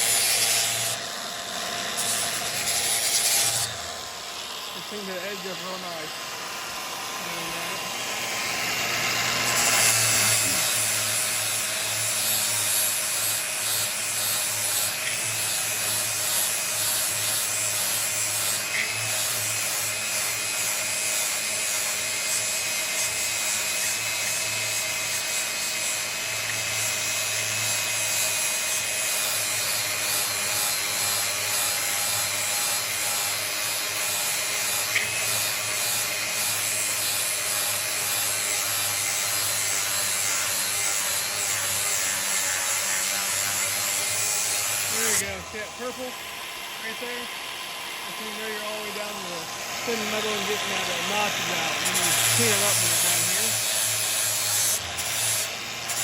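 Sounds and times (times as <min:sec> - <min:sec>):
grinder grinding steel blade: 0:00.0 - 0:56.0.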